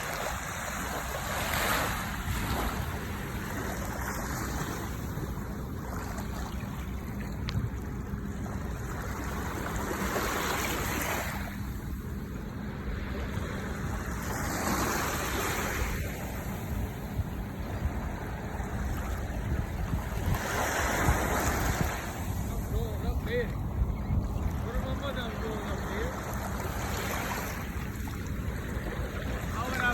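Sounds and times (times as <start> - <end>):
ocean waves breaking on beach: 0.0 - 29.9.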